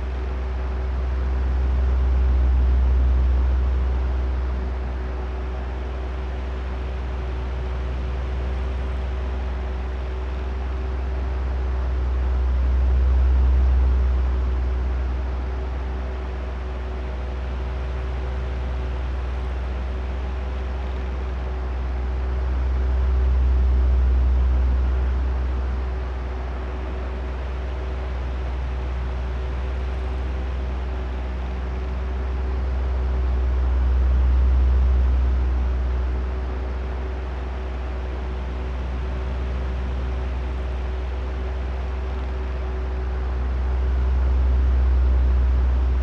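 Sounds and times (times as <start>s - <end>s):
electric fan motor hum: 0.0s - 46.0s.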